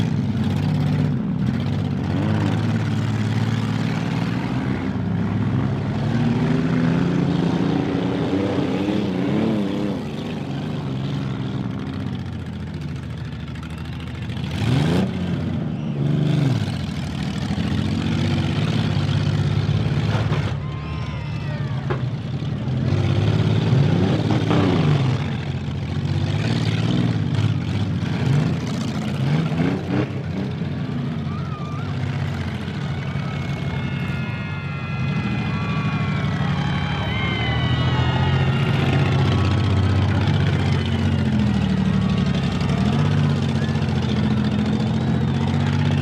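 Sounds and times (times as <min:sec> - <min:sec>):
car engines revving hard: 0:00.0 - 0:20.8, 0:21.8 - 0:46.0.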